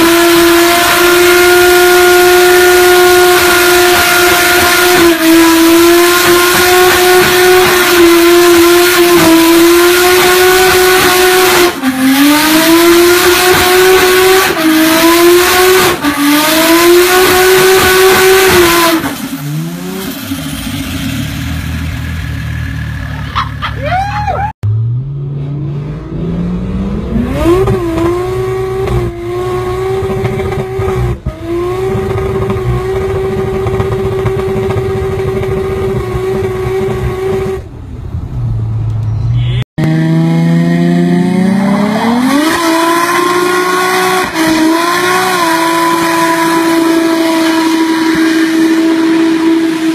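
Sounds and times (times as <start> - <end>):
car engine revving: 0.0 - 23.7, 24.6 - 49.9
car accelerating: 0.0 - 49.9.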